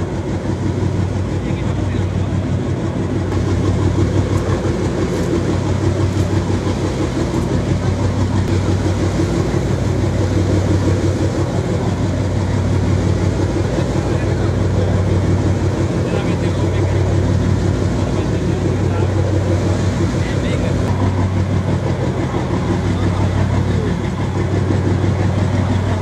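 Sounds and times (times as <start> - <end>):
boat engine droning: 0.0 - 26.0
wake water rushing: 0.0 - 26.0.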